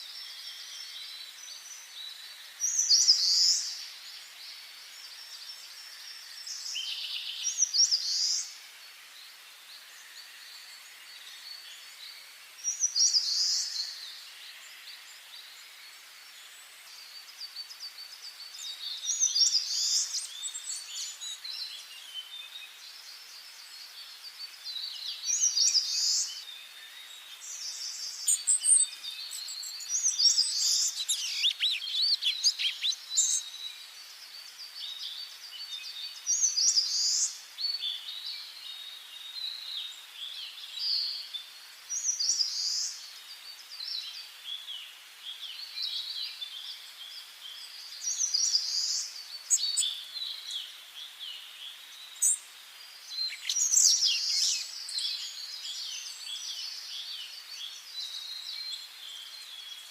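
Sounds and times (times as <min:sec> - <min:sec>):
faint steady hiss: 0:00.0 - 0:59.9
songbirds singing: 0:00.0 - 0:59.9.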